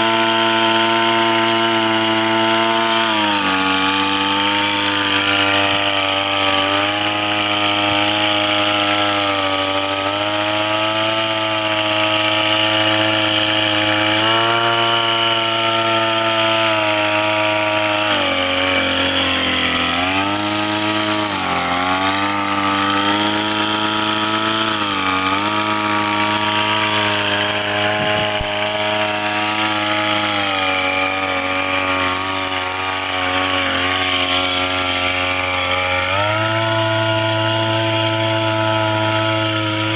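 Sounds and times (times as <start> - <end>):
crop sprayer engine running: 0.0 - 39.9.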